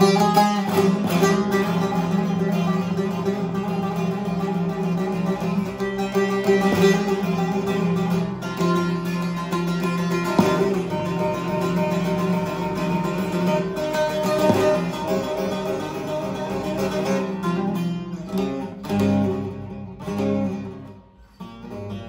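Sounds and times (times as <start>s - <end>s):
long-necked lute plucked notes: 0.0s - 22.0s.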